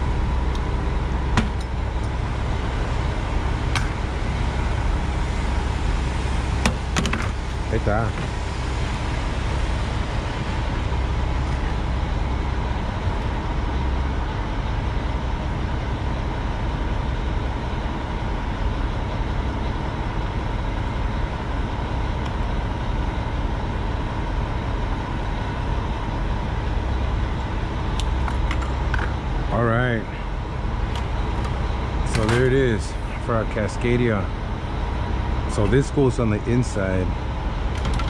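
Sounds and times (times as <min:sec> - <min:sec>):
diesel truck idling: 0:00.0 - 0:38.0
faint whine: 0:00.0 - 0:38.0.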